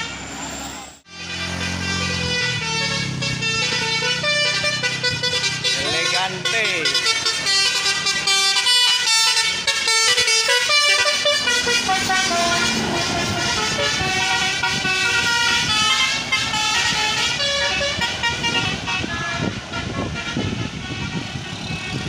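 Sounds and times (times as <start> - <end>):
bus engine and road noise: 0.0 - 22.0
tuned air horns playing melody: 1.0 - 22.0.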